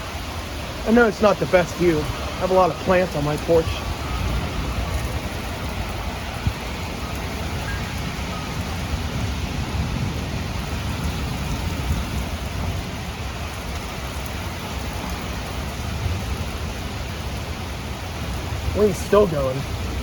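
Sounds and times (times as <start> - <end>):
gusting wind: 0.0 - 20.0
heavy rain pouring: 0.0 - 20.0
low thunder rumble: 0.0 - 20.0.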